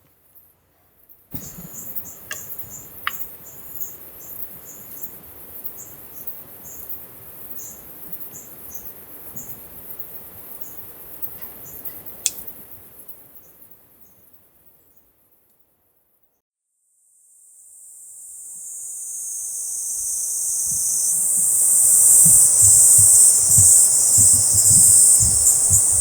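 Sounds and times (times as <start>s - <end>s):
insects chirping: 0.1s - 16.4s, 17.4s - 26.0s.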